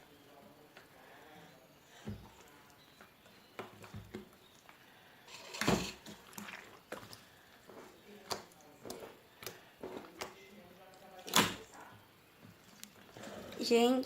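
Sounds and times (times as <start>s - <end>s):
slime squelch: 1.9s - 13.7s.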